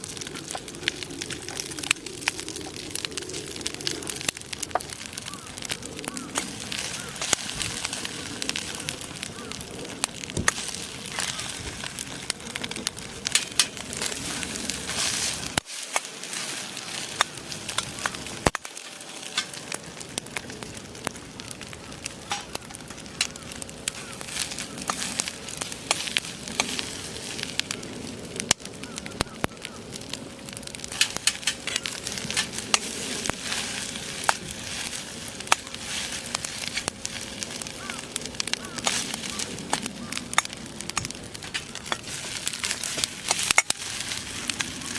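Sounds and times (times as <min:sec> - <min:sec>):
campfire crackling and popping: 0:00.0 - 0:44.9
rice sizzling in a pan: 0:00.0 - 0:44.9.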